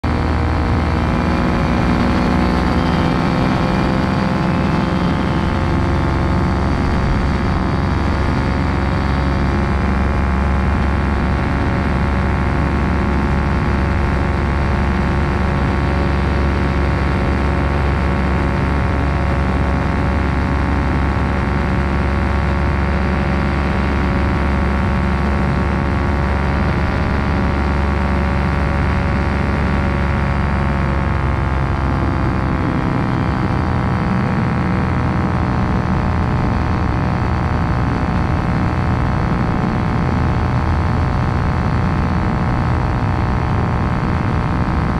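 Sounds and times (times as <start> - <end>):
ultralight aircraft engine running: 0.0 - 44.9.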